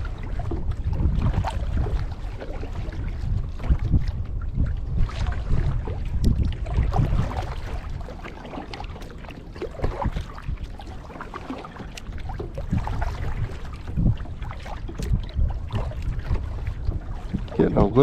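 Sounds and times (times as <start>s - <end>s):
paddle splashing water: 0.0s - 18.0s
wind on microphone: 0.0s - 18.0s.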